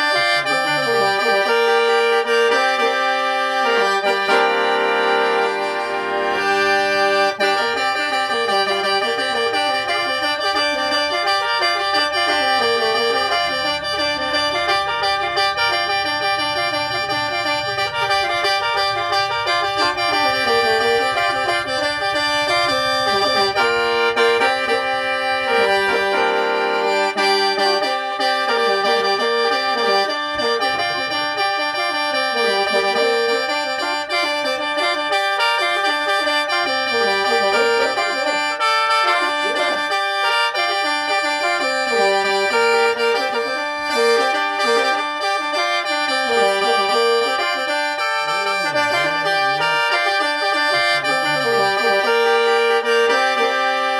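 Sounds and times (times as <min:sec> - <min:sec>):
mouth organ melody over drone: 0:00.0 - 0:53.9.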